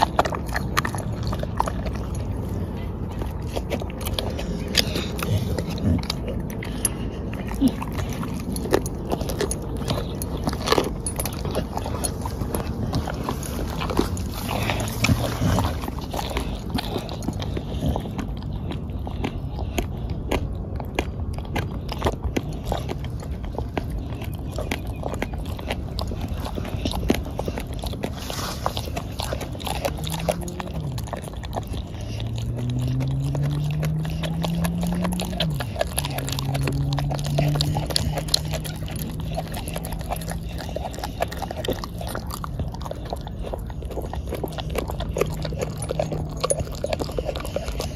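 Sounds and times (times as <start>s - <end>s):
dog chewing bones: 0.0s - 47.9s.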